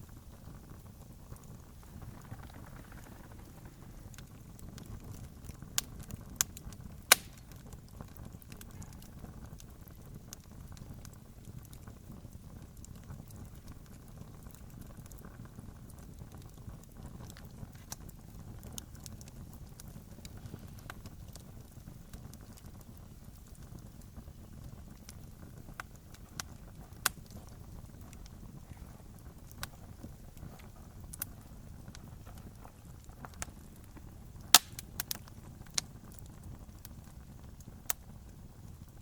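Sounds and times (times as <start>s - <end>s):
burning wood popping: 0.0s - 39.0s
campfire burning: 0.0s - 39.0s.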